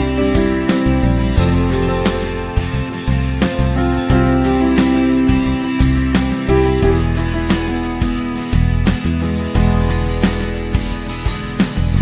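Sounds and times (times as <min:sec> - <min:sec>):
plucked and strummed guitar: 0:00.0 - 0:12.0.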